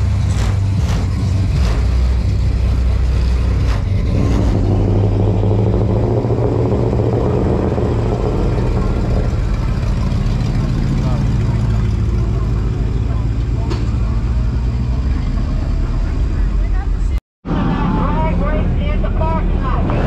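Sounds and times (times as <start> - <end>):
car engines rumbling past: 0.0 - 20.0.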